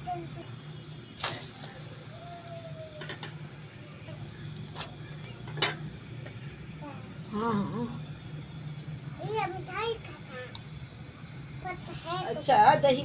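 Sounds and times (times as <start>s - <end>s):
faint sizzling hiss: 0.0s - 13.0s
steady low hum: 0.0s - 13.0s.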